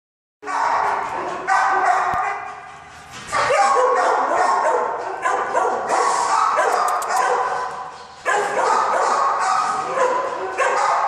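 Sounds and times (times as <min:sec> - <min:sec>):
dog barking and yipping: 0:00.4 - 0:02.7, 0:03.3 - 0:11.0.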